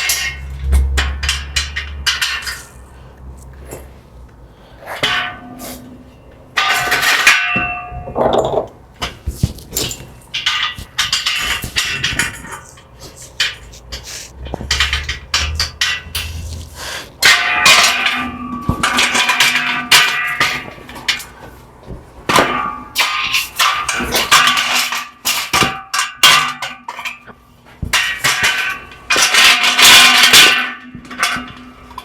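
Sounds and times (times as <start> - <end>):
metal scaffold parts clanking: 0.0 - 4.0, 4.8 - 32.0.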